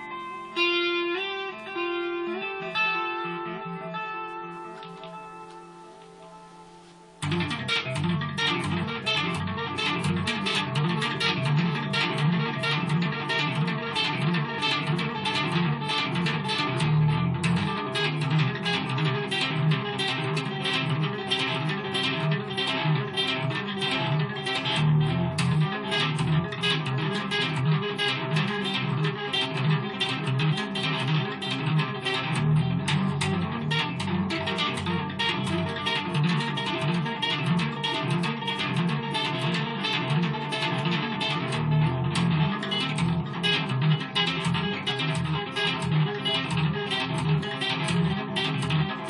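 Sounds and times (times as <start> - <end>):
fast electric guitar solo: 0.0 - 49.0.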